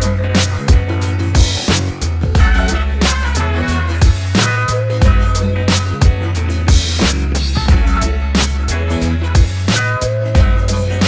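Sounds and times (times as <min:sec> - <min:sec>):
hip-hop music with bass and drums: 0:00.0 - 0:11.0.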